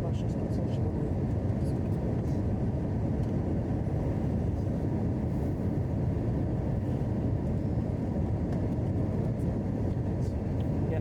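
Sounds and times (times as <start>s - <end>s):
airliner engines: 0.0s - 11.0s.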